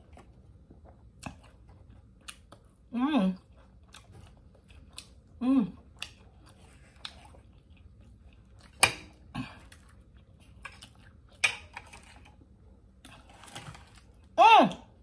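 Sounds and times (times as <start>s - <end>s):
close-up chewing and wet mouth sounds: 0.0s - 15.0s.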